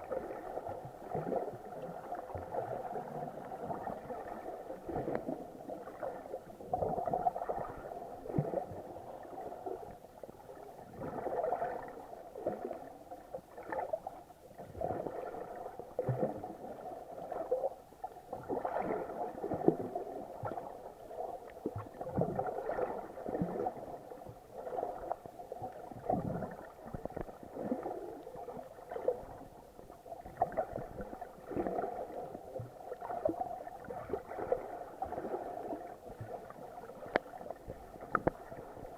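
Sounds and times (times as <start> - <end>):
muffled underwater gurgling and sloshing: 0.0 - 38.9.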